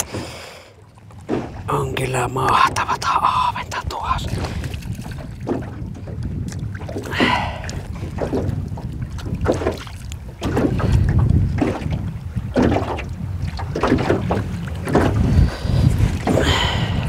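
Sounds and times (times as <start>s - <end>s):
water slapping boat hull: 0.0s - 17.0s
wind on microphone: 2.4s - 17.0s.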